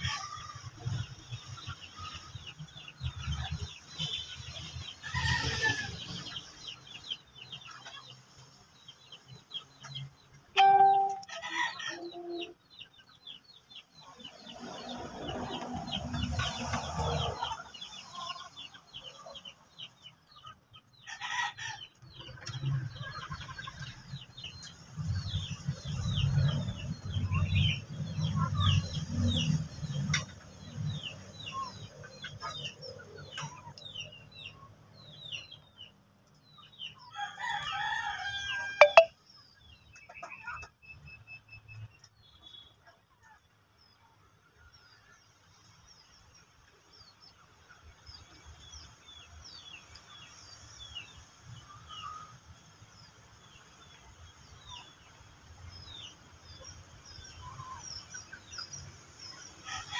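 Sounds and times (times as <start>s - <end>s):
small birds chirping: 0.0s - 11.3s, 12.3s - 59.9s
chickens clucking: 0.0s - 59.9s.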